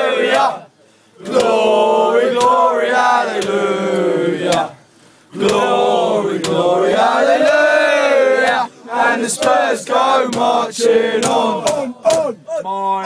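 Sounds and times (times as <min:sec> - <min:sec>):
crowd of men chanting: 0:00.0 - 0:12.8.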